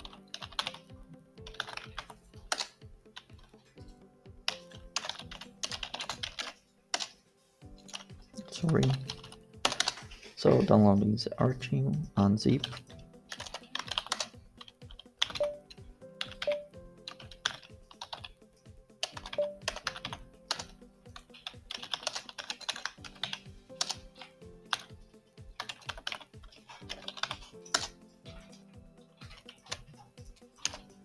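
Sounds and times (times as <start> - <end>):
typing on keyboard: 0.0 - 3.7, 4.4 - 7.2, 7.8 - 10.1, 12.5 - 31.0.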